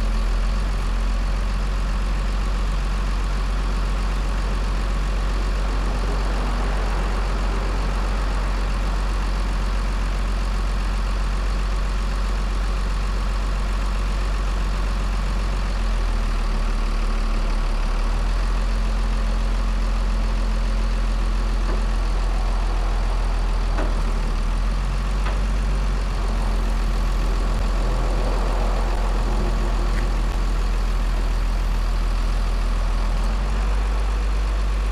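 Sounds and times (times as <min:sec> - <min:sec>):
heavy crane engine running: 0:00.0 - 0:34.9.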